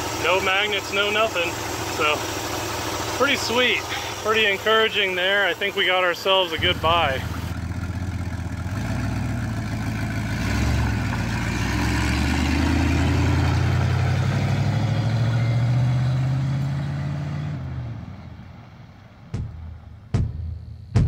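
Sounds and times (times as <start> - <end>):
truck engine accelerating: 0.0 - 21.0.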